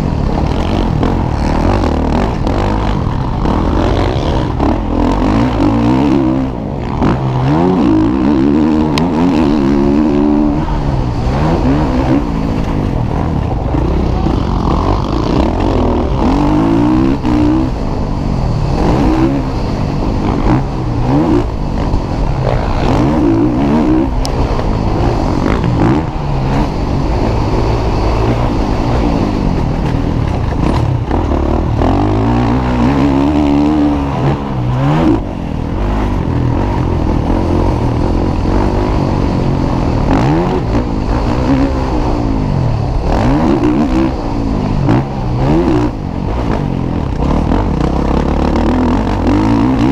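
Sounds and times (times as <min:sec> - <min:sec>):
motocross bike engines revving: 0:00.0 - 0:49.9.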